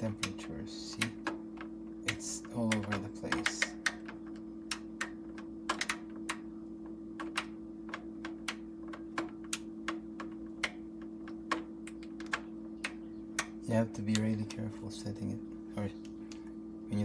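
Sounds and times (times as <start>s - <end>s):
oven control clicks: 0.0s - 6.4s, 7.2s - 14.7s
steady low hum: 0.0s - 17.0s.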